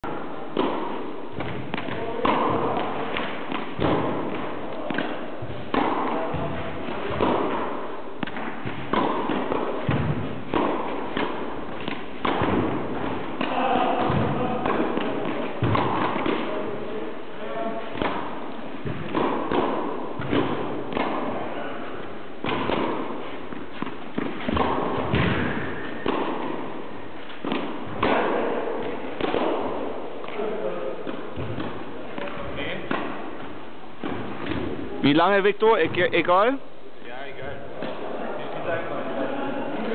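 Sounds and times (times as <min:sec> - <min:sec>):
tennis ball strikes: 0:00.5 - 0:16.6, 0:17.9 - 0:34.9.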